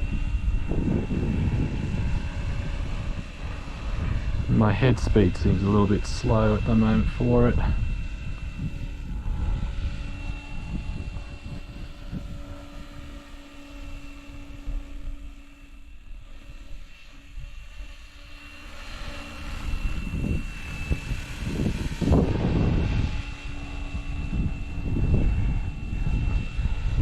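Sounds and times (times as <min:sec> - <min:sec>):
rc helicopter whining: 0:00.0 - 0:27.0
wind buffeting microphone: 0:00.0 - 0:27.0.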